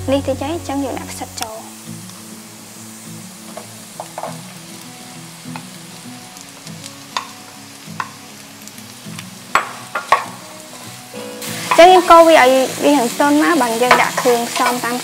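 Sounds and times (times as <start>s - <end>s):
mushrooms sizzling in oil: 0.0s - 15.0s.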